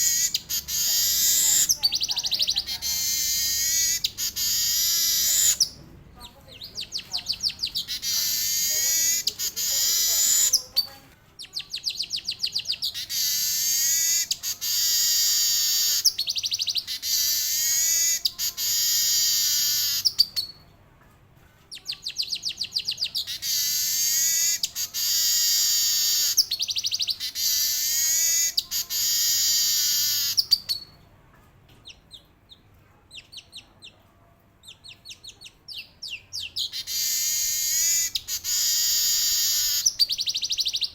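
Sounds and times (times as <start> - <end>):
bird singing buzzy trills: 0.0 - 5.8, 6.5 - 10.9, 11.5 - 20.5, 21.8 - 30.9, 35.7 - 40.9.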